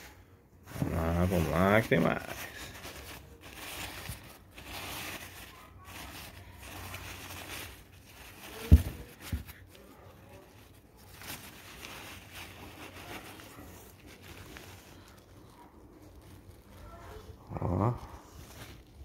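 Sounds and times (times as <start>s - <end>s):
packing paper rustling: 0.0s - 19.0s.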